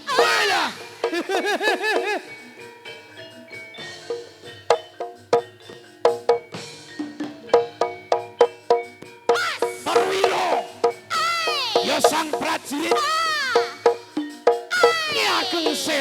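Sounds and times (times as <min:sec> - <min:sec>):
drum strokes: 0:00.0 - 0:16.0
mallet-struck gamelan notes: 0:00.0 - 0:16.0
wavering sliding melody: 0:00.0 - 0:16.0.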